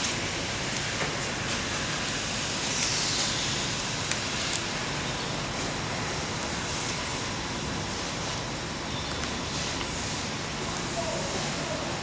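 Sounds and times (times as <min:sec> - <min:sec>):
hiss-like workshop background noise: 0:00.0 - 0:12.0.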